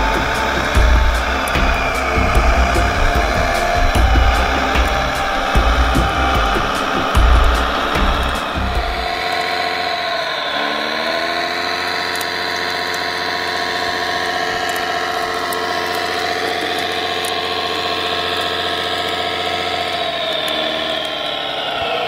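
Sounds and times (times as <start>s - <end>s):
model bulldozer engine running: 0.0s - 22.0s.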